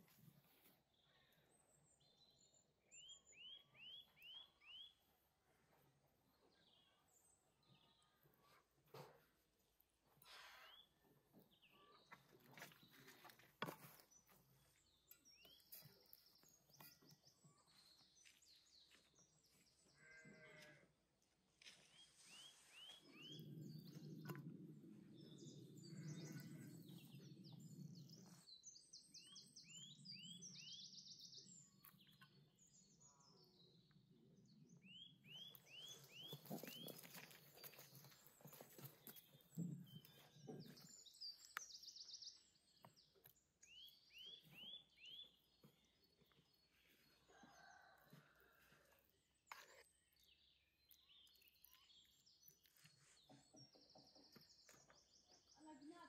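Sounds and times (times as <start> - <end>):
small birds chirping: 0.0 - 20.8, 21.5 - 56.0.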